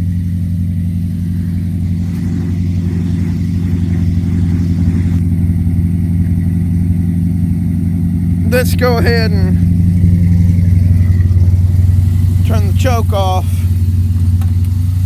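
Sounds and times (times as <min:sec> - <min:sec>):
pickup engine running rough: 0:00.0 - 0:15.0.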